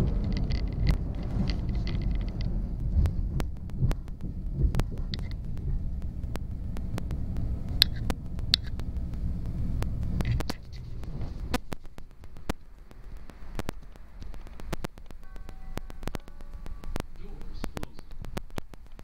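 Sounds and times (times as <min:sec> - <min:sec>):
train cars rumbling: 0:00.0 - 0:18.3
sharp clicks: 0:00.0 - 0:19.0.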